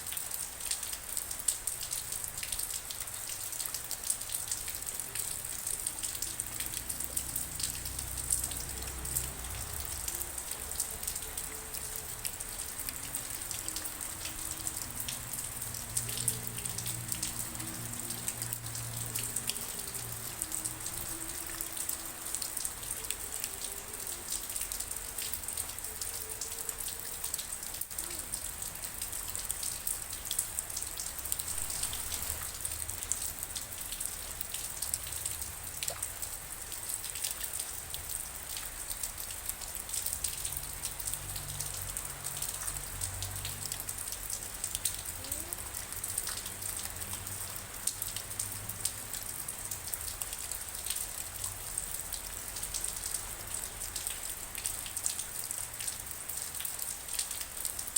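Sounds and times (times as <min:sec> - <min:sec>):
raindrops ticking on surfaces: 0:00.0 - 0:57.9
steady rain falling: 0:00.0 - 0:57.9.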